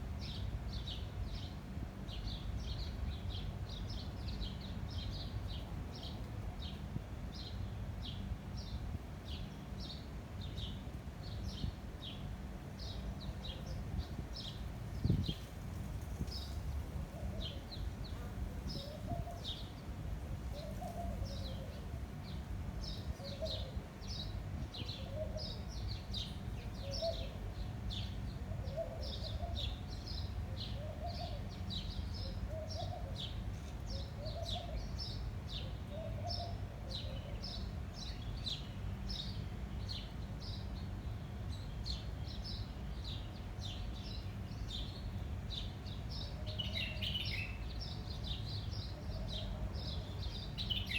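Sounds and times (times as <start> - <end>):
low rumble of wind: 0.0 - 50.9
small birds chirping: 0.2 - 50.9.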